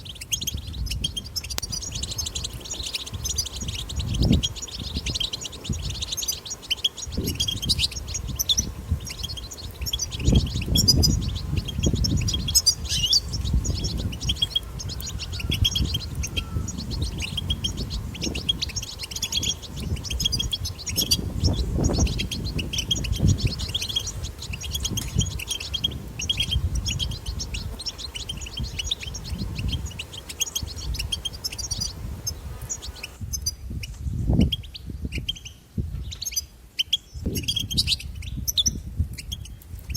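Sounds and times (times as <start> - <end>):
bird twittering: 0.0 - 39.6.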